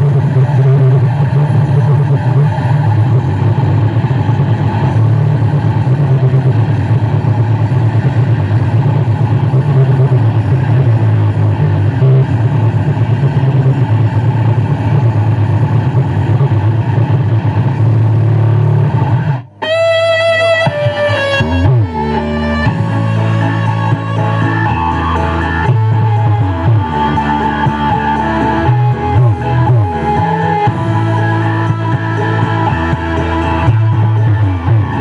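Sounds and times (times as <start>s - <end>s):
loud bass-heavy rumble: 0.0s - 19.6s, 21.4s - 35.0s.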